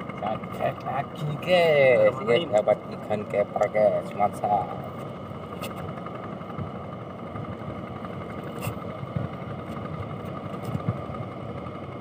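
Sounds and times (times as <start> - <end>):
distant engine running: 0.0 - 12.0.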